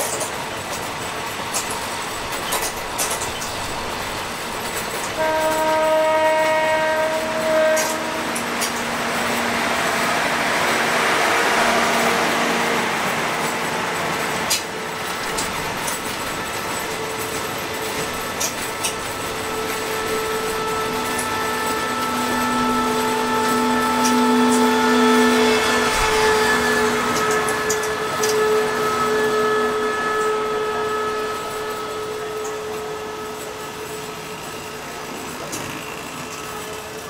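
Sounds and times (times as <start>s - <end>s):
locomotive engine hum: 0.0s - 37.0s
train rolling rumble: 0.0s - 37.0s.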